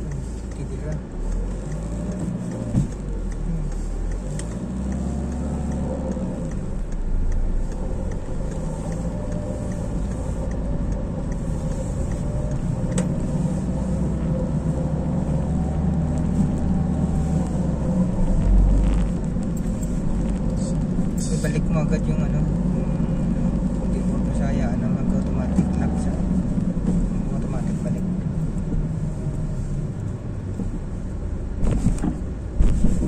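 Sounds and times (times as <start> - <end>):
car engine hum: 0.0 - 33.0
road rumble: 0.0 - 33.0.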